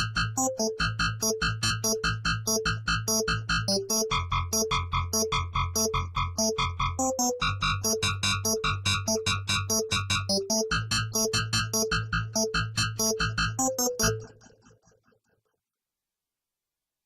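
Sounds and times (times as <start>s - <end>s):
sustained synthesizer bass line: 0.0s - 14.9s
synthesizer playing fast bright notes: 0.0s - 14.9s.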